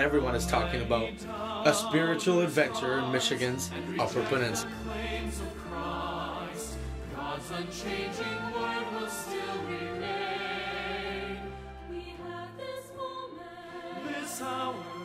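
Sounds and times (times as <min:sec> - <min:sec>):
music with singing voices: 0:00.0 - 0:15.0.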